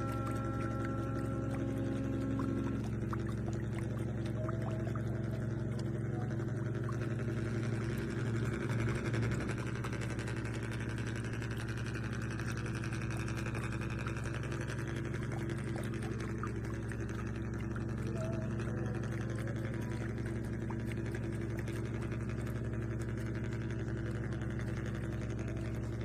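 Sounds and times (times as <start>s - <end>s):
small electric motors humming: 0.0s - 26.0s.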